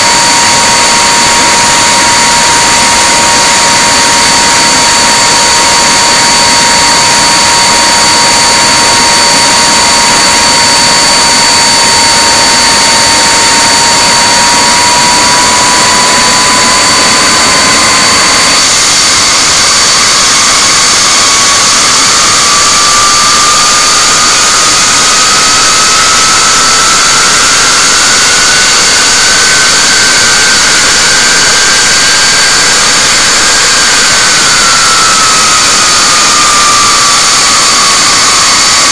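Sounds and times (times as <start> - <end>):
high engine whine: 0.0 - 38.9
jet engines running: 0.0 - 38.9
whine climbing in pitch: 0.0 - 38.9.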